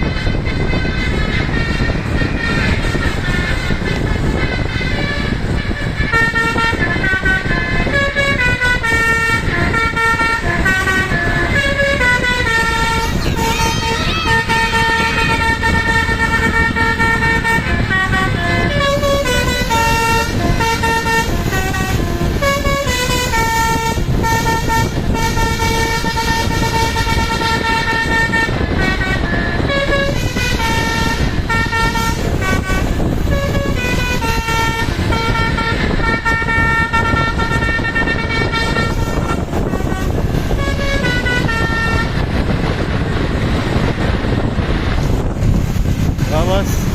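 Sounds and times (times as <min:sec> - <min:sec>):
bus horn playing a tune: 0:00.0 - 0:44.9
bus engines rumbling: 0:00.0 - 0:46.9
road noise: 0:00.0 - 0:46.9.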